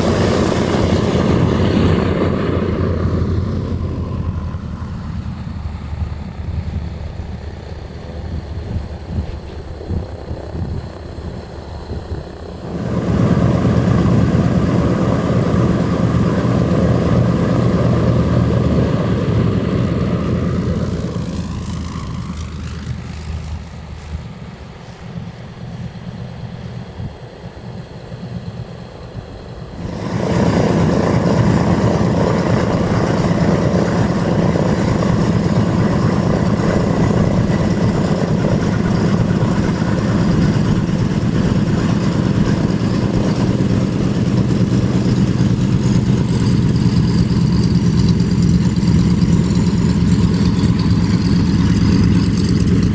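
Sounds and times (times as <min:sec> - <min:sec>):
propeller plane engines running: 0:00.0 - 0:52.9.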